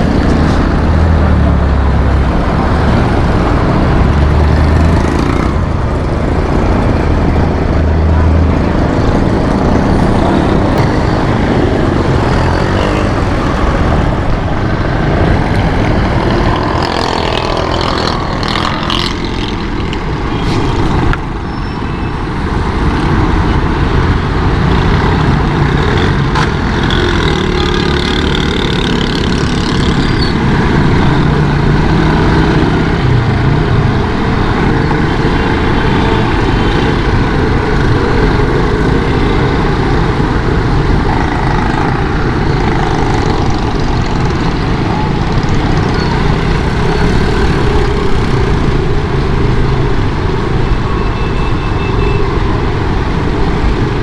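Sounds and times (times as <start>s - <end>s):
motorcycle engine: 0.0s - 21.5s, 23.1s - 51.5s.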